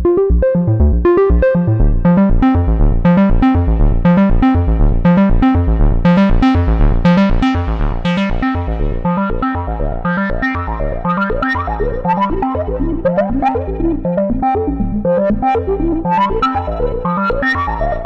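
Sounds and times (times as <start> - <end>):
synthesizer bass line: 0.0 - 18.0
synthesizer sequenced pattern: 0.0 - 18.0.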